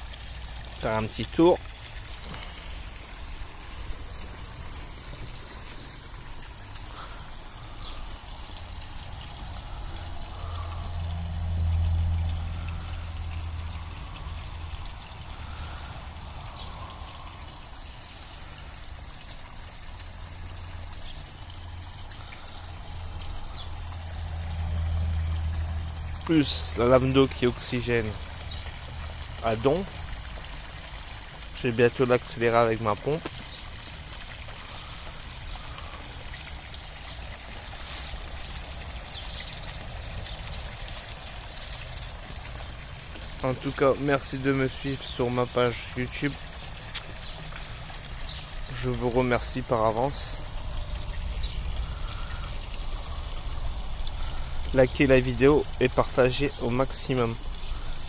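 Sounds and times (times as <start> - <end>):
water splashing into pond: 0.0 - 58.0.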